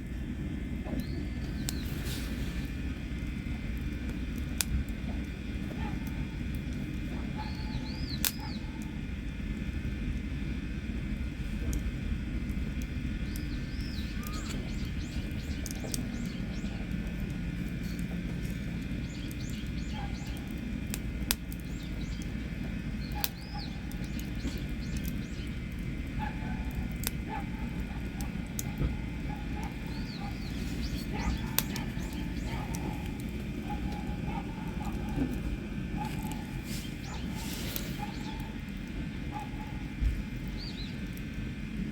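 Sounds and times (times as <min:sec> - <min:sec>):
campfire burning: 0:00.0 - 0:41.9
fire popping: 0:00.0 - 0:41.9
birds chirping: 0:00.8 - 0:03.3, 0:04.9 - 0:09.1, 0:13.0 - 0:41.6.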